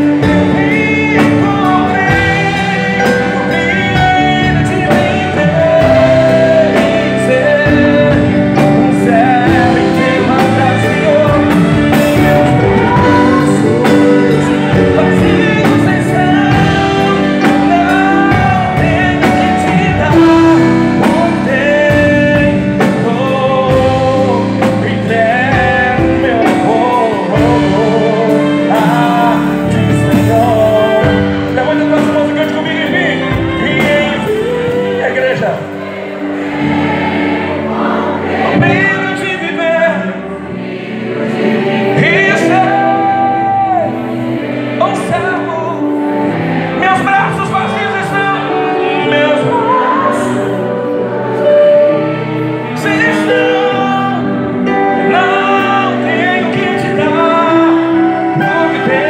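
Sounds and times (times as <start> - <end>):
man singing into microphone: 0.0 - 36.4, 37.6 - 40.6, 41.2 - 44.2, 44.8 - 59.0
instrumental backing music: 0.0 - 59.0.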